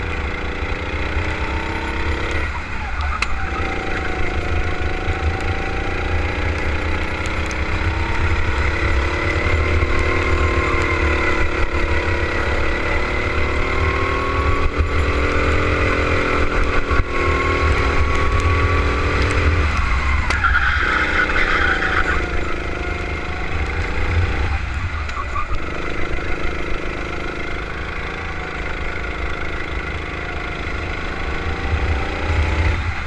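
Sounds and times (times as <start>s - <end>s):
go-kart engine racing: 0.0s - 33.0s.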